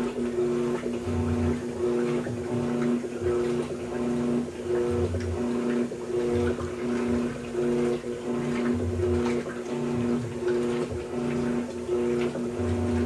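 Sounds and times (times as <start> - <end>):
washing machine motor humming: 0.0 - 13.0
water sloshing in a tub: 0.0 - 13.0.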